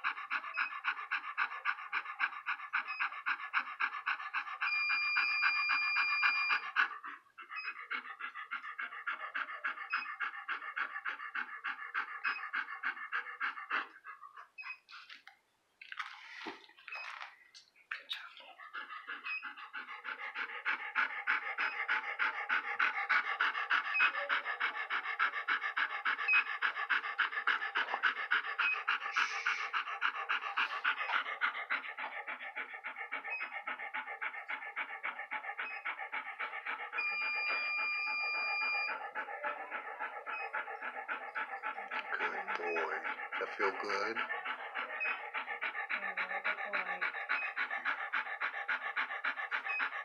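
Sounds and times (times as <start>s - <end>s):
large dog panting: 0.0s - 15.3s, 16.0s - 50.0s.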